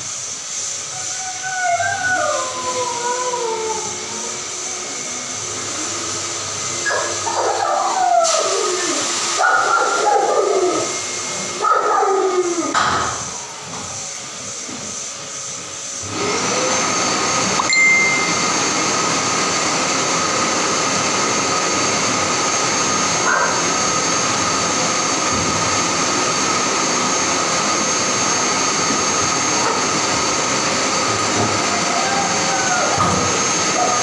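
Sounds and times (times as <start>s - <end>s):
electric blower motor whining: 0.0s - 34.0s.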